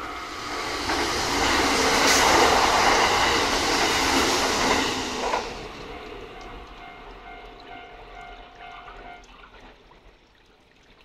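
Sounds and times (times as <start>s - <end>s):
train passing: 0.0s - 9.3s.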